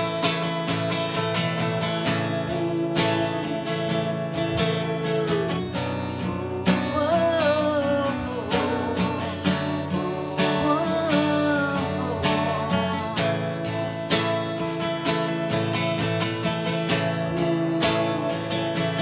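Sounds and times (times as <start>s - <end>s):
acoustic guitar strumming: 0.0s - 19.0s
person singing: 0.0s - 19.0s.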